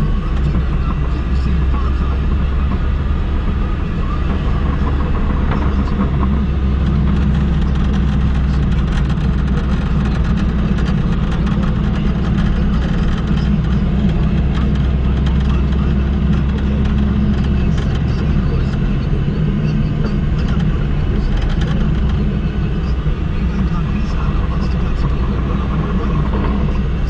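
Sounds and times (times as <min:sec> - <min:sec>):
car engine and tyre drone: 0:00.0 - 0:27.0.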